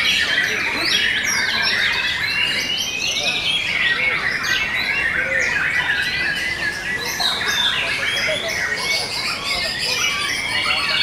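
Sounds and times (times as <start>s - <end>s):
birds singing with rapid whistles: 0.0s - 11.0s.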